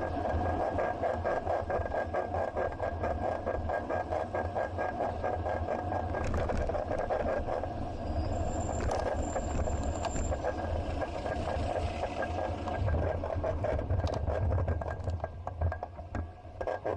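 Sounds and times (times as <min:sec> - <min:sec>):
rhythmic pulsing: 0:00.0 - 0:15.8
bicycle rattling on road: 0:00.0 - 0:16.9.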